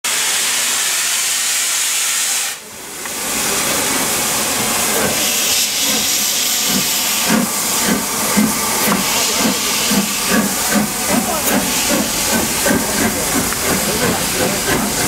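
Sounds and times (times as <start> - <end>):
steam locomotive venting steam: 0.1 - 15.0.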